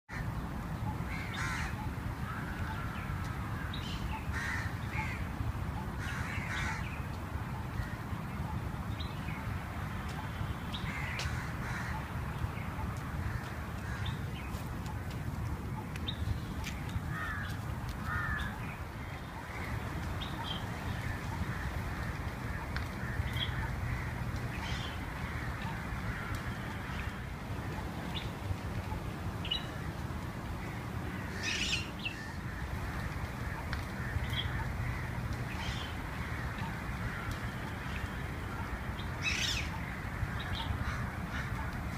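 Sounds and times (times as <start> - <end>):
birds calling: 0.1 - 41.9
wind rumble on microphone: 0.1 - 41.9.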